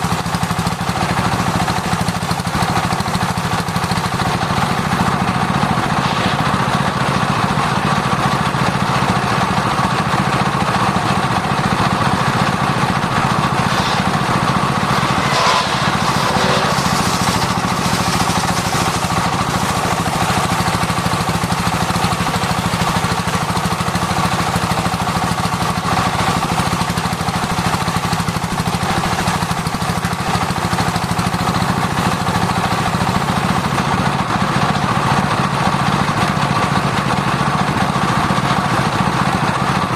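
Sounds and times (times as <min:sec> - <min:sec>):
circular saw cutting wood: 0:00.0 - 0:10.0, 0:10.9 - 0:33.8.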